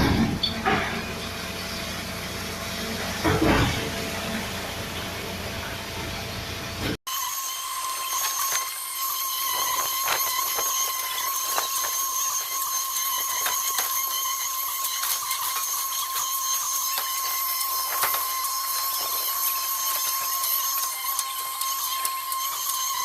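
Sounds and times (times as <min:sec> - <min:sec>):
concrete pump whining: 0:00.0 - 0:23.0.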